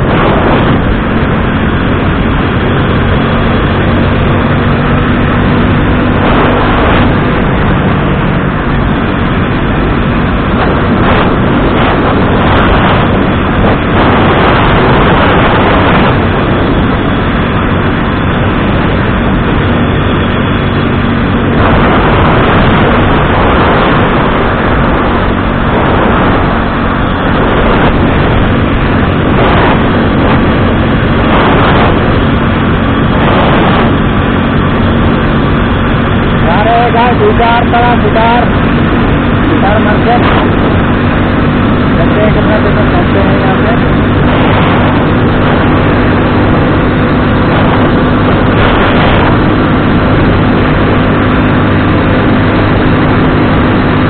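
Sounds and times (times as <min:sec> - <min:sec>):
motorcycle engine running: 0:00.0 - 0:54.0
road noise: 0:00.0 - 0:54.0
wind rushing: 0:00.0 - 0:54.0.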